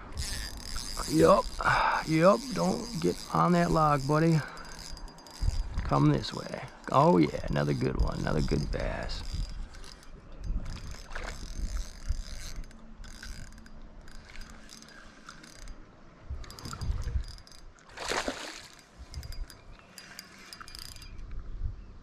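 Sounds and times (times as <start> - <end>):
fishing reel gears clicking: 0.0 - 17.8, 18.6 - 21.4.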